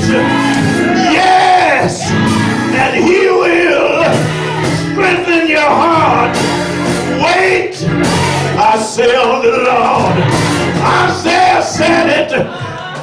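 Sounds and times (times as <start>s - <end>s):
sustained low instrumental chords: 0.0s - 8.9s, 9.6s - 12.2s
person singing: 0.0s - 13.0s.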